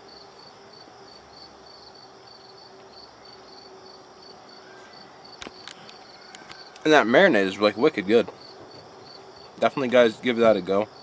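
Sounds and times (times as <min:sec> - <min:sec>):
cricket chirping: 0:00.0 - 0:11.0
faint background noise: 0:00.0 - 0:11.0.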